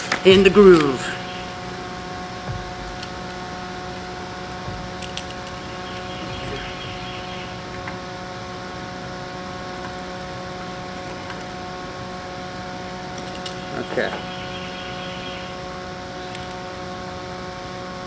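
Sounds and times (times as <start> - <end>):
desk fan humming: 0.0 - 18.0.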